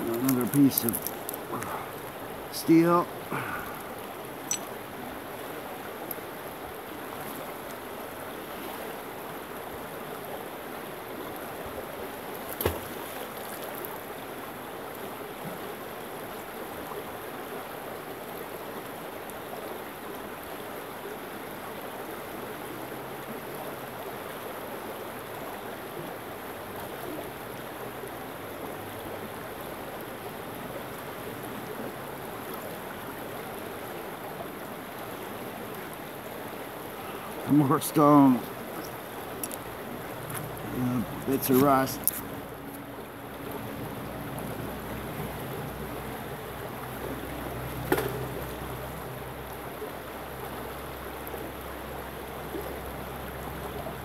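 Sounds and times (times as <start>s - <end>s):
stream rippling over rocks: 0.0s - 54.0s.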